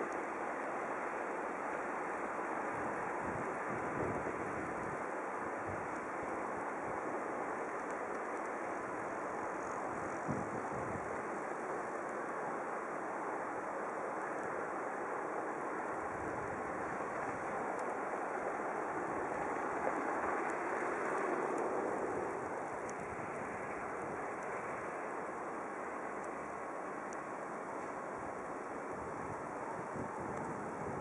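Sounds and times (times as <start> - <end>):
cars driving on snow: 0.0 - 31.0.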